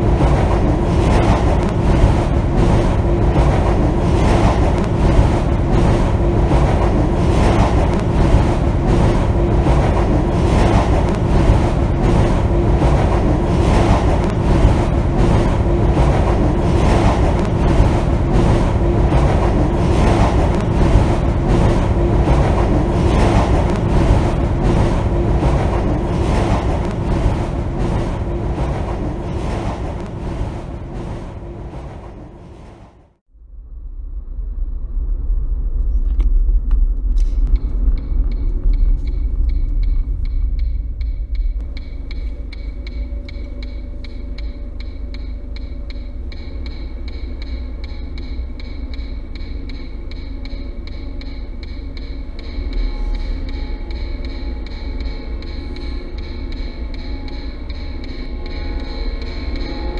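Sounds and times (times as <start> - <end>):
regular pulsing beat: 0.0 - 33.1, 37.5 - 59.9
low rumbling drone: 0.0 - 59.9.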